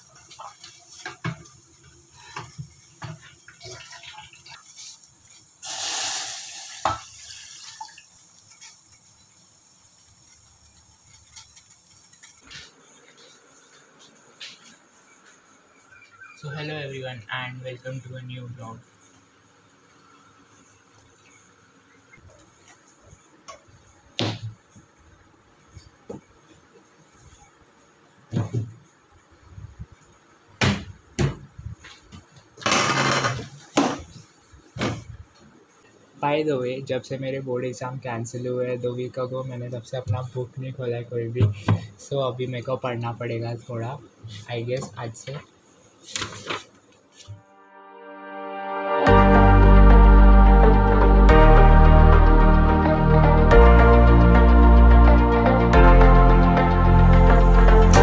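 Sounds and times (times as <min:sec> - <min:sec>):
faint hiss: 0:00.0 - 0:58.0.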